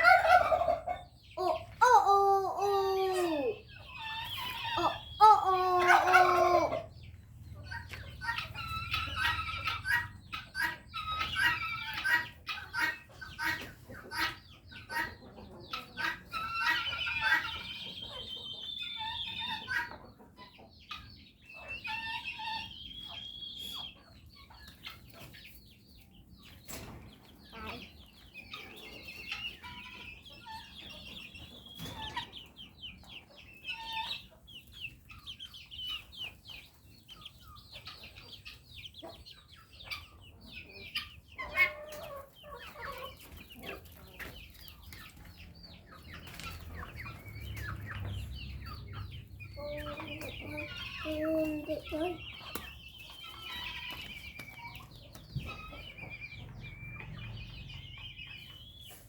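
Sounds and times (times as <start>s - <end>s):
chickens peeping and clucking: 0.0s - 59.0s.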